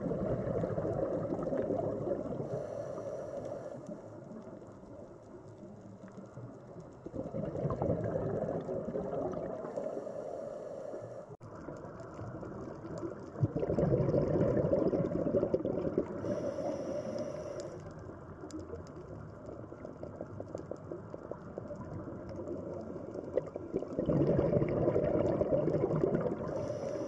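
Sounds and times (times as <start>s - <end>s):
muffled underwater water rush: 0.0s - 27.0s.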